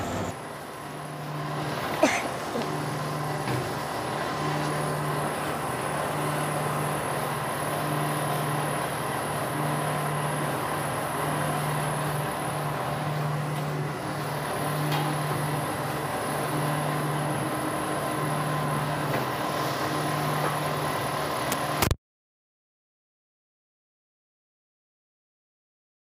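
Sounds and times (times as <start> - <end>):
machine motor pulsing hum: 0.0 - 21.9.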